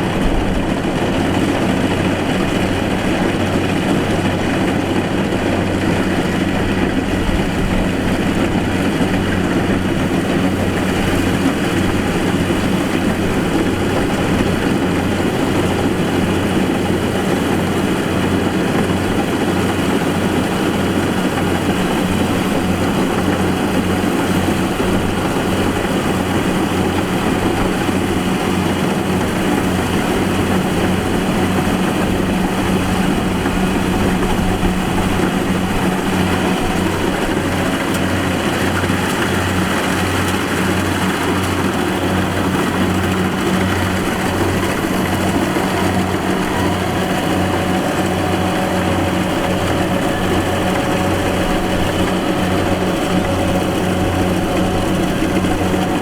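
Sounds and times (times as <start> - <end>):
harvester engine throbbing: 0.0 - 56.0.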